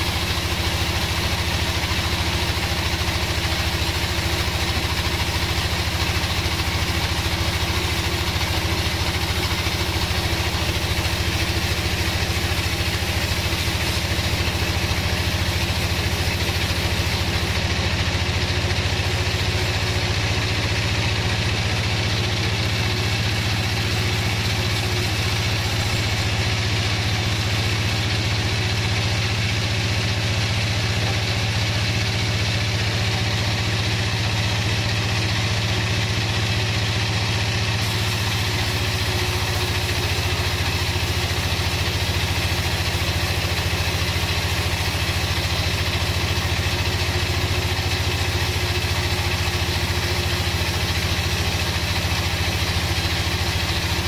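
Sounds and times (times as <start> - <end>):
saw blade hissing through wood: 0.0 - 21.3, 22.2 - 28.7, 37.8 - 54.0
sawmill motor drone: 0.0 - 54.0.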